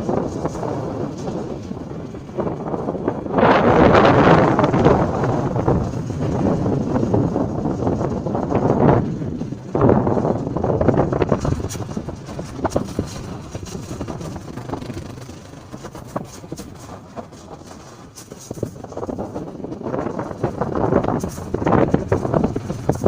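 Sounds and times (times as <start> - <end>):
motorcycle engine: 0.0 - 23.0
road noise: 0.0 - 23.0
wind on microphone: 0.0 - 23.0.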